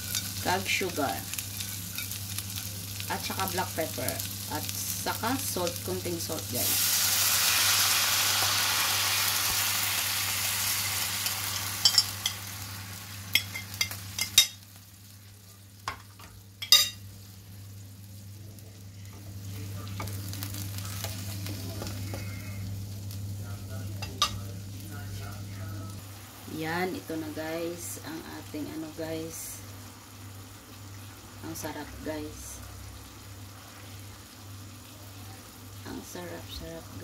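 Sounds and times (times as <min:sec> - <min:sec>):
sauce sizzling in frying pan: 0:00.0 - 0:37.0.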